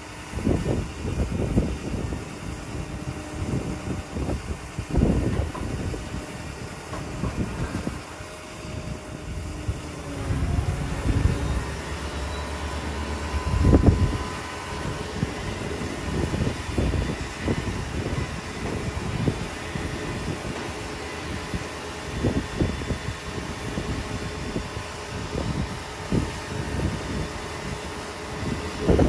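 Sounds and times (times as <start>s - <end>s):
tow truck mechanical hum: 0.0s - 29.0s
wind buffeting microphone: 0.0s - 29.0s.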